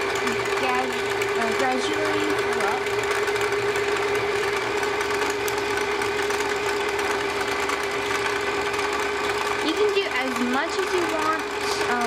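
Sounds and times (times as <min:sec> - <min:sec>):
sewing machine humming: 0:00.0 - 0:12.0.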